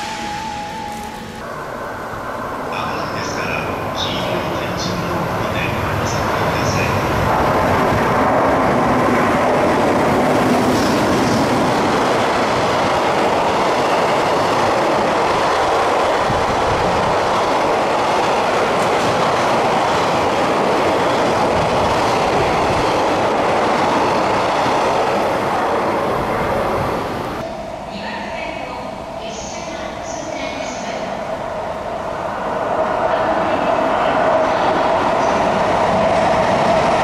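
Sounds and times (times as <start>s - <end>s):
freight train passing: 0.0s - 37.0s.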